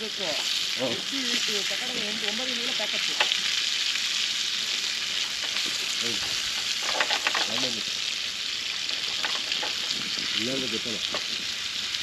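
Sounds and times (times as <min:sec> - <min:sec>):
fish sizzling in hot oil: 0:00.0 - 0:12.0
oil crackling: 0:00.0 - 0:12.0.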